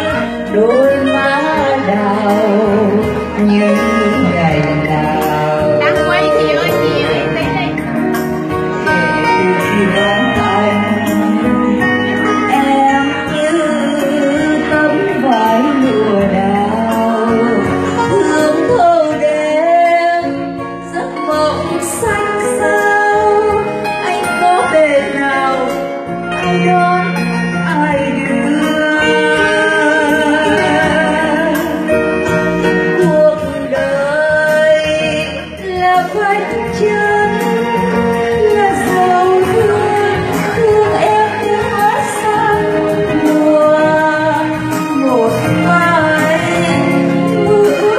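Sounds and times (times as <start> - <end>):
acoustic guitar: 0.0 - 47.9
woman singing a slow ballad: 0.0 - 47.9.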